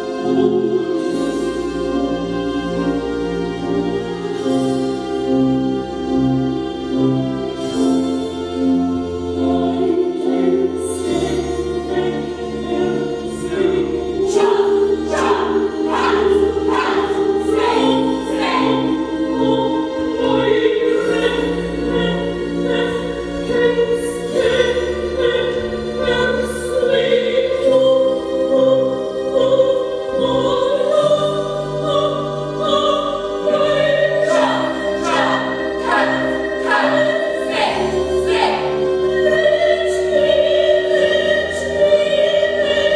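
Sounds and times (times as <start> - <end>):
operatic choral singing: 0.0 - 42.9.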